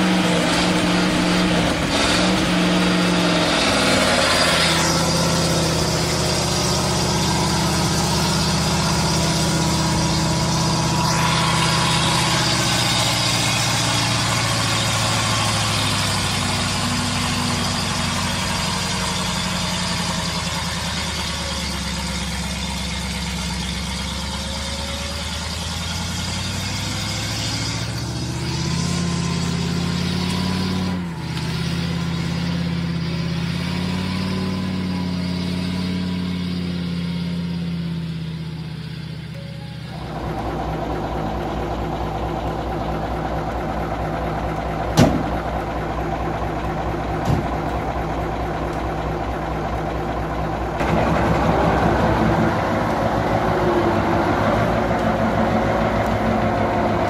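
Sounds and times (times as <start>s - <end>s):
truck engine running under load: 0.0s - 57.0s.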